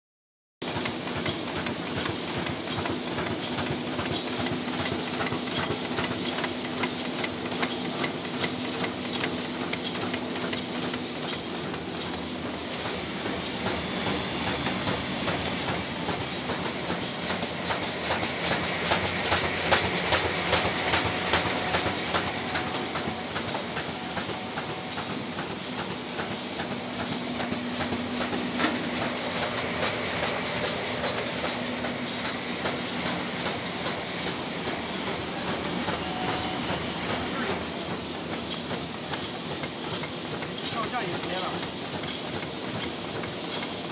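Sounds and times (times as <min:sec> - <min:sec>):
machine rhythmic mechanical clatter: 0:00.6 - 0:43.9.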